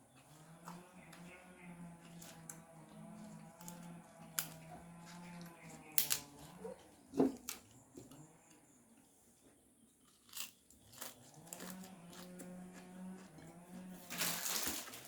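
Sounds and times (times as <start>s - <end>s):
chewing crunches: 0.0s - 8.6s, 9.9s - 15.0s.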